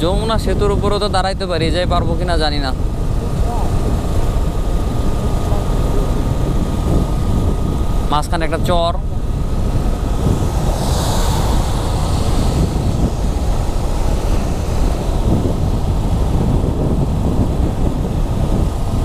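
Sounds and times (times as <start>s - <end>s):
wind buffeting microphone: 0.0s - 19.0s
motorcycle engine and road rumble: 1.2s - 19.0s.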